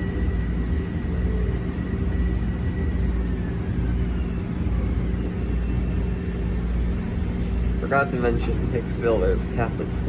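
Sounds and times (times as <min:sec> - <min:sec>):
electric train rumbling: 0:00.0 - 0:10.0.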